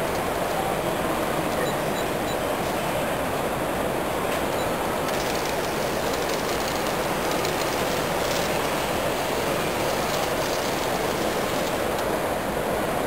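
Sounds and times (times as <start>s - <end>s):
busy exhibition hall noise: 0.0s - 13.0s.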